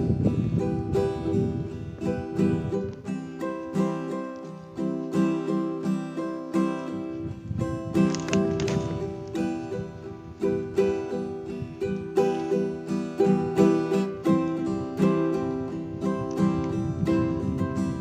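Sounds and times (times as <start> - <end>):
plucked acoustic guitar melody: 0.0 - 18.0.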